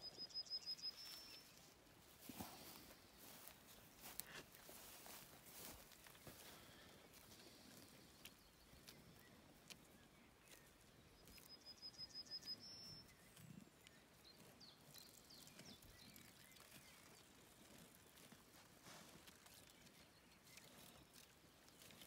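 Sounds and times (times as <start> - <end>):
cattle grazing clicks and rustles: 0.2 - 22.0.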